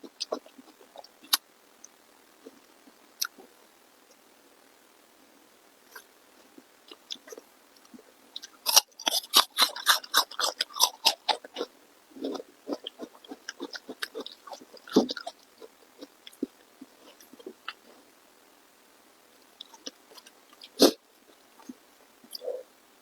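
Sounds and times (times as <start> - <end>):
crunchy chewing of food: 0.0 - 4.2, 5.9 - 18.2, 19.4 - 22.6.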